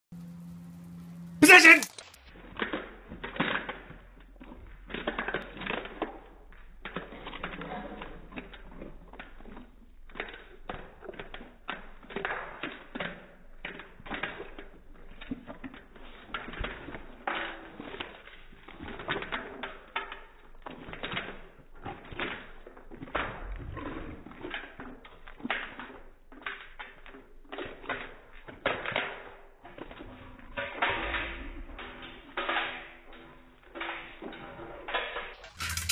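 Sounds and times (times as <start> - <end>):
dog chewing wet meat: 1.9 - 35.9.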